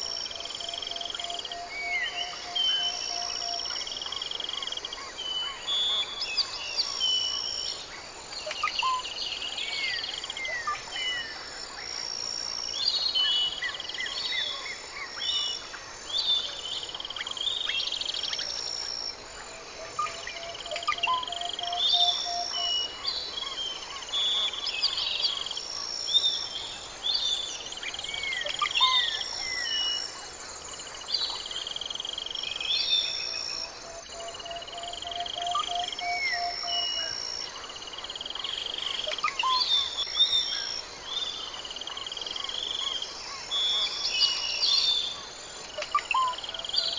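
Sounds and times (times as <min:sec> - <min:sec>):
insects trilling: 0:00.0 - 0:46.9
tropical forest birds calling: 0:00.0 - 0:46.9.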